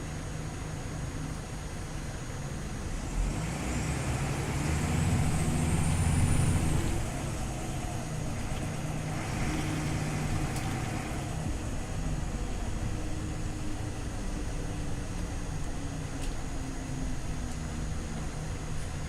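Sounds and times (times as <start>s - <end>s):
bus engine running: 0.0s - 19.0s.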